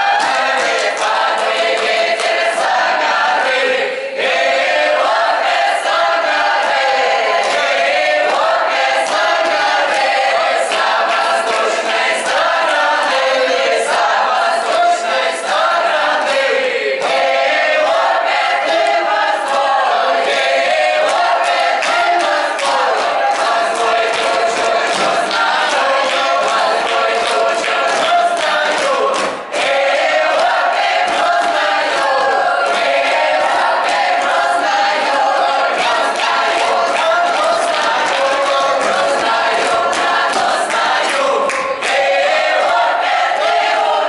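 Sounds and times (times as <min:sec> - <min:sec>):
mixed choir singing folk song: 0:00.0 - 0:44.0.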